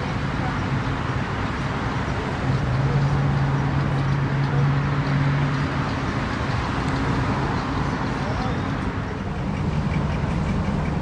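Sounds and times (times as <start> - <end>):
engine idling: 0.0 - 11.0
outdoor noise: 0.0 - 11.0.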